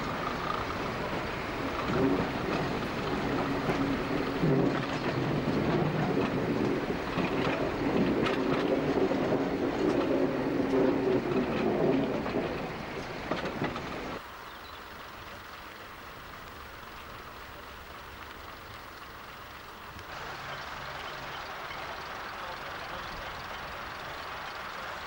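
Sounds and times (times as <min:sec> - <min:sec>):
diesel engine drone: 0:00.0 - 0:25.0
wheels clicking over rail joints: 0:00.0 - 0:25.0.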